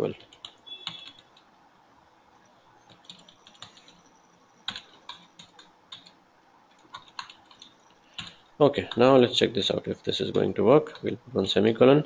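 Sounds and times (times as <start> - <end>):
faint keyboard typing: 0.0 - 1.5, 2.8 - 11.8.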